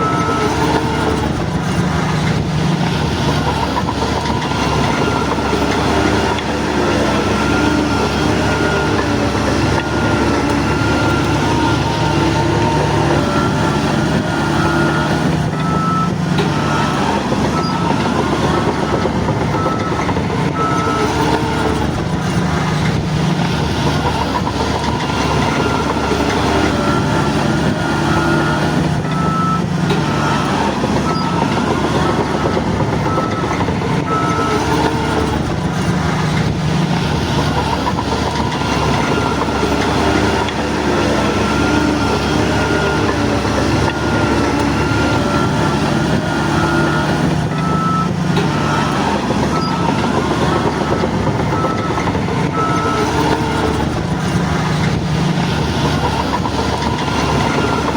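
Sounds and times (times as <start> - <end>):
bulldozer diesel engine under load: 0.0 - 57.9
reversing alarm beeping: 0.0 - 57.9.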